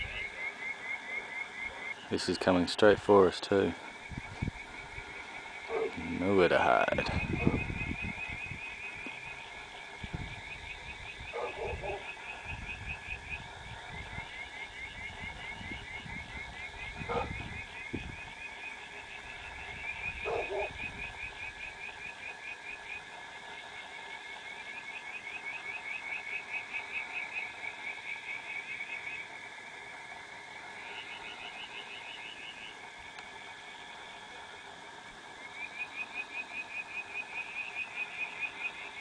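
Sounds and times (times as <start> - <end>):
frogs trilling in chorus: 0.0 - 39.0.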